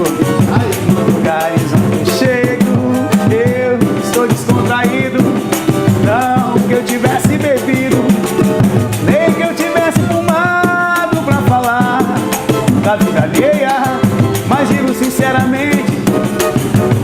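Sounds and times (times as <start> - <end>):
percussion: 0.0 - 17.0
person singing: 0.0 - 17.0.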